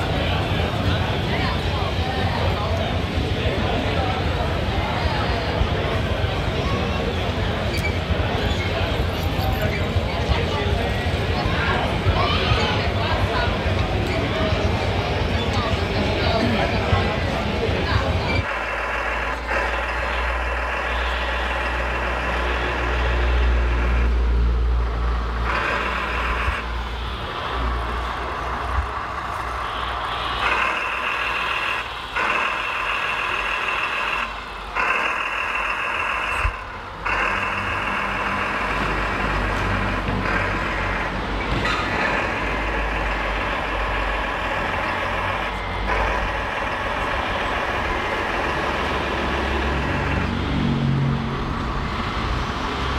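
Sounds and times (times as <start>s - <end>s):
hydraulic pump whirring: 7.1s - 52.9s.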